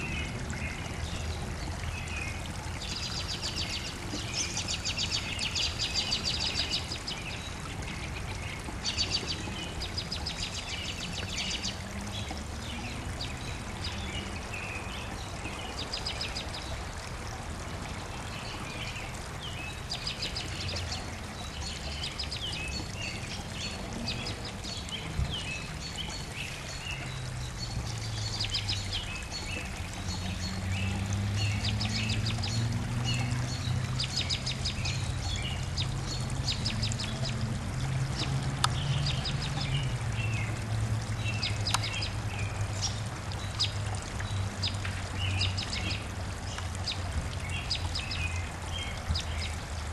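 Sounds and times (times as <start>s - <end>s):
songbirds trilling and chirping: 0.0s - 49.9s.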